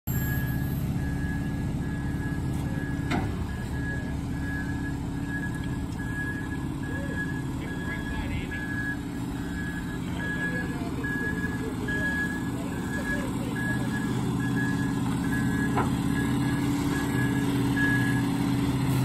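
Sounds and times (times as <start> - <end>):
backup alarm beeping: 0.1 - 18.5
diesel engine running: 0.1 - 19.0.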